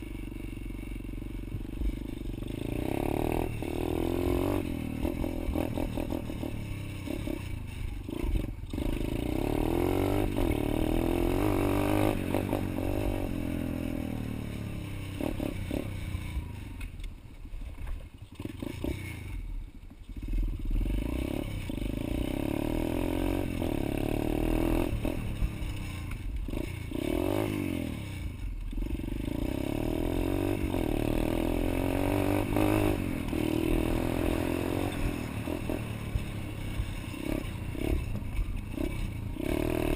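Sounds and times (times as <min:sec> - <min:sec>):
pit bike engine revving: 0:00.9 - 0:16.6, 0:20.1 - 0:39.9.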